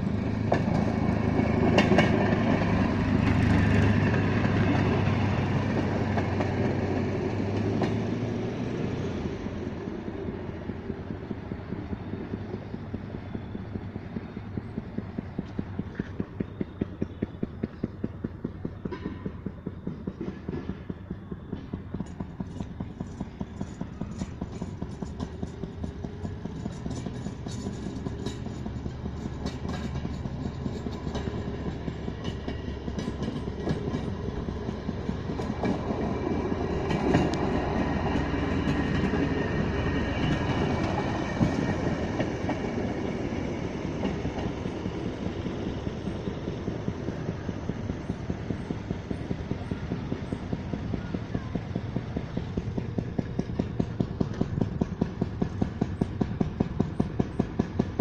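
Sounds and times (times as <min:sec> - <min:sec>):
rail cars clicking on rails: 0:00.0 - 0:58.0.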